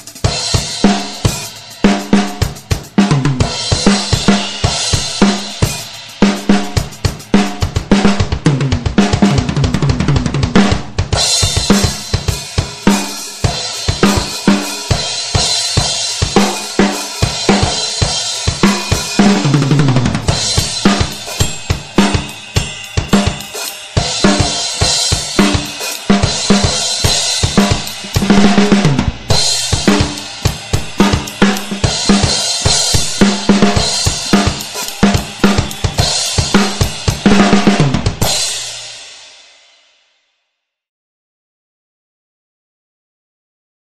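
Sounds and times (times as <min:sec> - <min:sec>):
tom drum fill: 0:00.0 - 0:39.0
drum kit playing a beat: 0:00.0 - 0:39.7.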